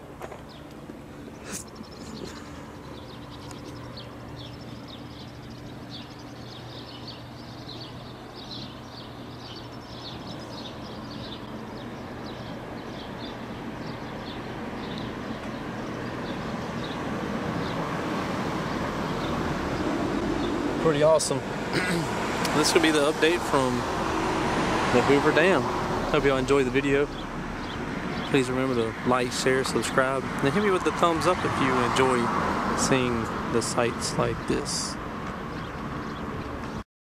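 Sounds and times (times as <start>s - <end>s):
passing vehicle noise: 0.0s - 36.8s.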